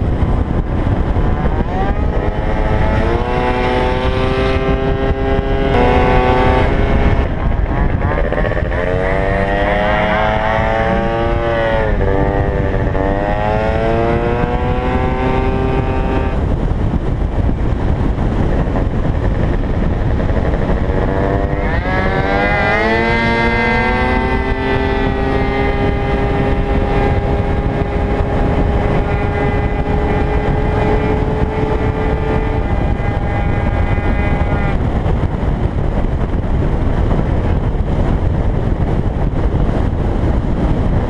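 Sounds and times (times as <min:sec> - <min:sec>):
scooter engine revving: 0:00.0 - 0:35.2
wind rush: 0:00.0 - 0:41.0.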